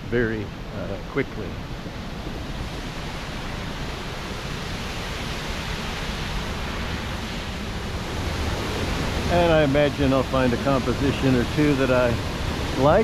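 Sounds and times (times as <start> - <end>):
waterfall rushing: 0.3 - 13.0.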